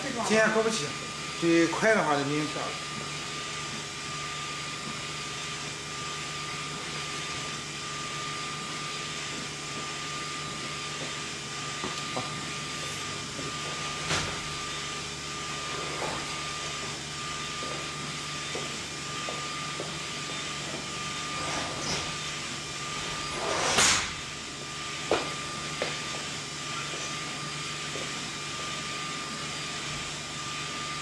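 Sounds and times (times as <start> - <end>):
printer fans and pumps humming: 0.0 - 31.0.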